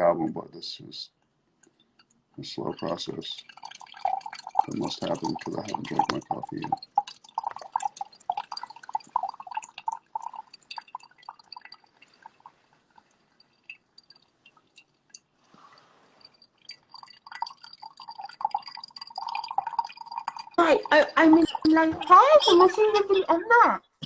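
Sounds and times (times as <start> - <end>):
coffee dripping: 0.4 - 24.0.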